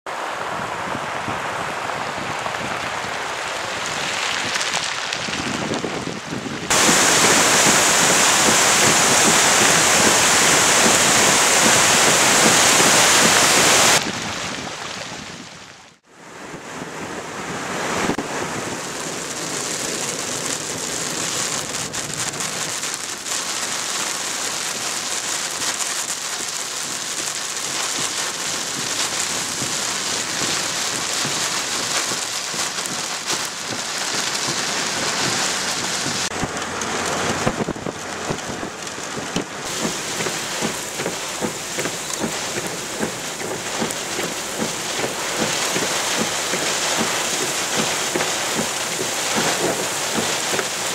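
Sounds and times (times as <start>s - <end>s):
heavy rain falling: 0.1s - 50.9s.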